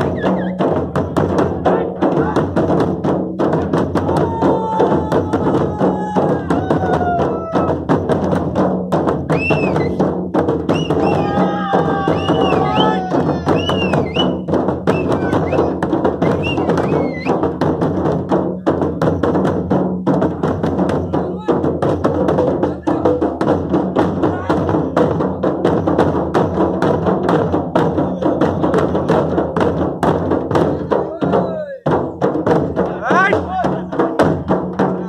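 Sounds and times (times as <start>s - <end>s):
barrel drums beaten with sticks: 0.0s - 35.0s.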